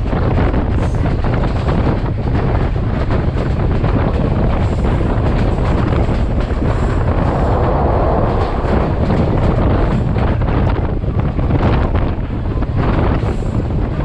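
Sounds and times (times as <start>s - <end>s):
train rolling noise: 0.0s - 14.0s
wind buffeting microphone: 0.0s - 14.0s.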